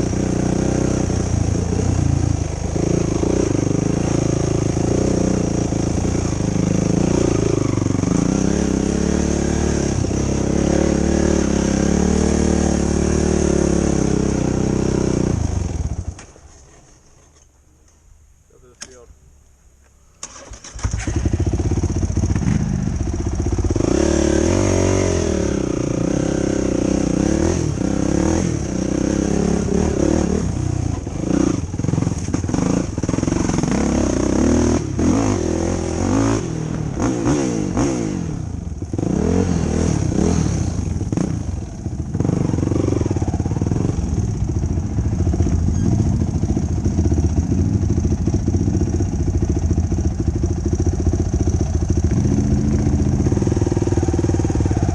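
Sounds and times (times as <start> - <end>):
quad engine revving: 0.0 - 16.2, 20.2 - 54.9.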